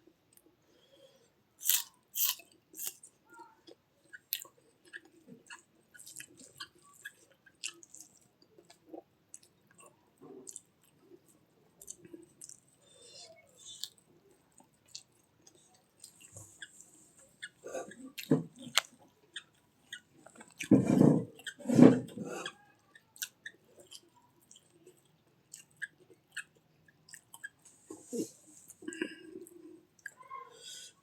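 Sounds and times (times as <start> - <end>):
person chewing food: 0.3 - 30.2.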